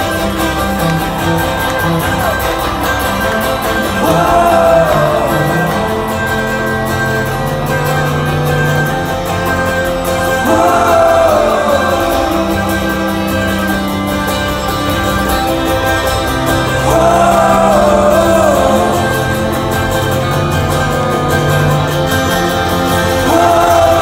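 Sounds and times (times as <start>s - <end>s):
person singing: 0.0s - 15.0s, 16.0s - 24.0s
acoustic string band playing: 0.0s - 24.0s.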